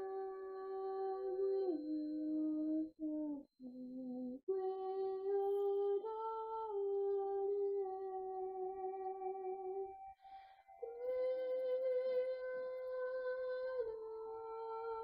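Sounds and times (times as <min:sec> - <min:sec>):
woman singing wordless melody: 0:00.0 - 0:15.0.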